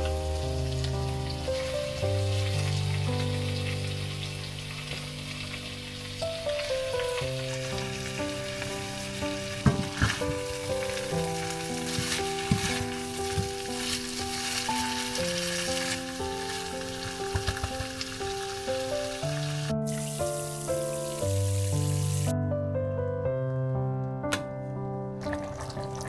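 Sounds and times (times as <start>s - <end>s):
food sizzling in a frying pan: 0.0s - 22.3s
soft background music: 0.0s - 26.0s.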